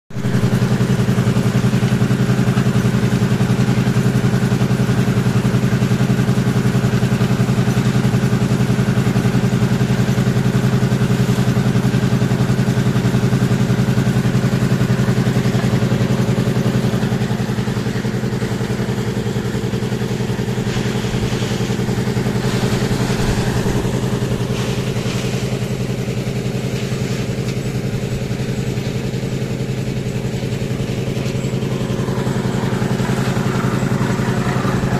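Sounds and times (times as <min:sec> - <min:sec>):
concrete mixer engine droning: 0:00.1 - 0:34.9.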